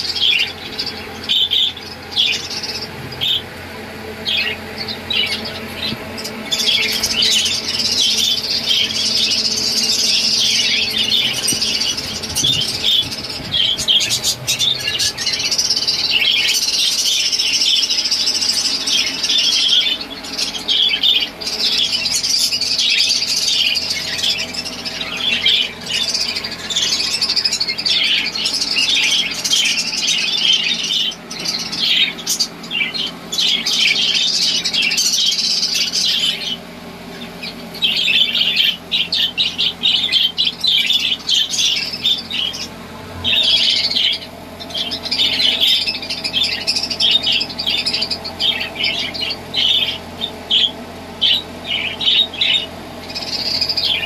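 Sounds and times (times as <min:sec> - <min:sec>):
flock of budgerigars chattering: 0:00.0 - 0:54.0.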